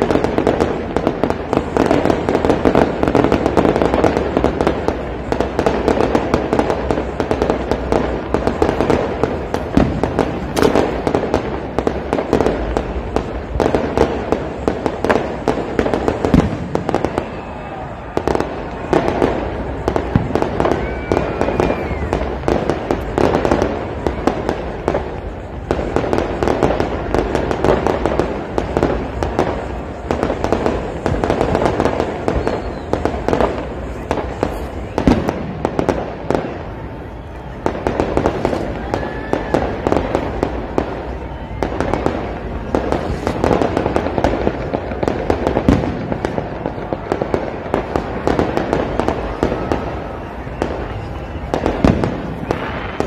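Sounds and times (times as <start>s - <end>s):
fireworks bangs: 0.0s - 53.0s
fireworks popping and crackling: 0.0s - 53.0s.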